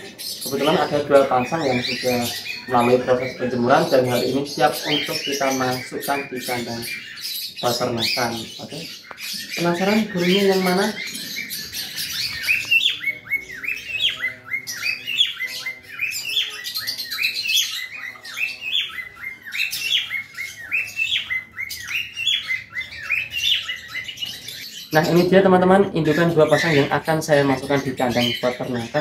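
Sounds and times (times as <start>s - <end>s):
cockatiels chirping: 0.0s - 29.0s.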